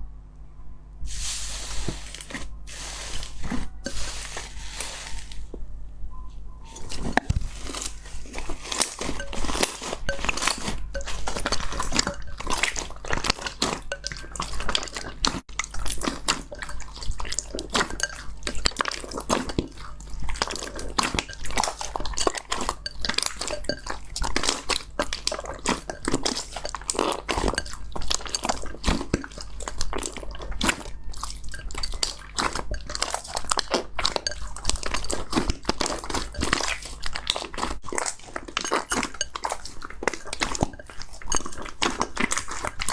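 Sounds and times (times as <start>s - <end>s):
slime crackling and popping: 7.2s - 42.9s.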